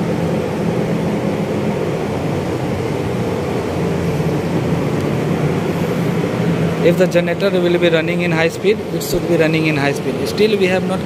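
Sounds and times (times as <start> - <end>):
exhaust fan rushing air: 0.0 - 11.0
low hum: 0.0 - 11.0.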